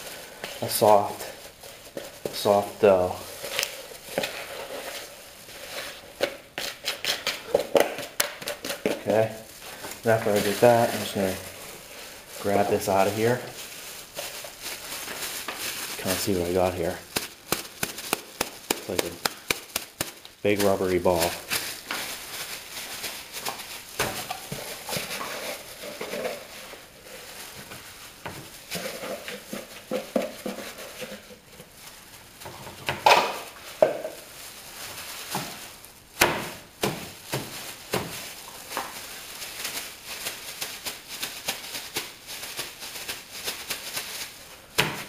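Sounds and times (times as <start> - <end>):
plastic bag crinkling: 0.0 - 45.0.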